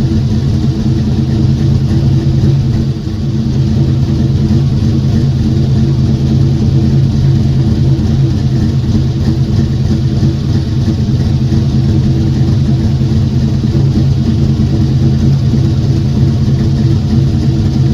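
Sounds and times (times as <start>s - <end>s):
car engine humming steadily: 0.0s - 17.9s.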